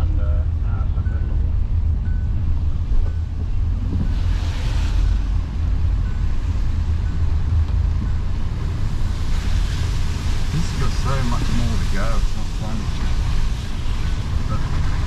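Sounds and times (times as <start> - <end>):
car driving rumble: 0.0 - 15.0
road and air noise: 0.0 - 15.0.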